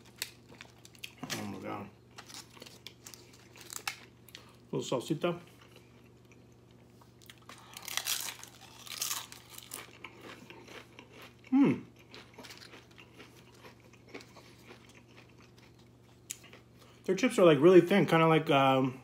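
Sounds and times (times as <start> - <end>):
tortilla chip crunching: 0.0 - 4.6, 5.6 - 17.0.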